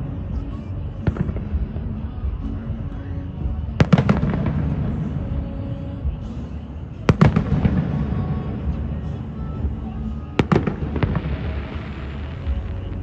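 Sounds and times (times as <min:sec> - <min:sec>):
steady low rumble: 0:00.0 - 0:13.0
fireworks bangs: 0:01.0 - 0:02.6, 0:03.5 - 0:13.0.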